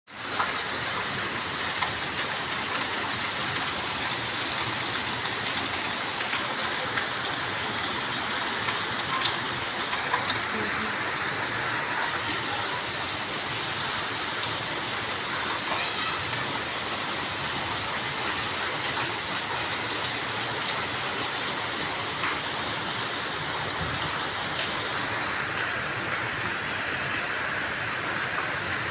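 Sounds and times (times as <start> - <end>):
raindrops ticking: 0.1 - 27.4
rain falling steadily: 0.1 - 28.9.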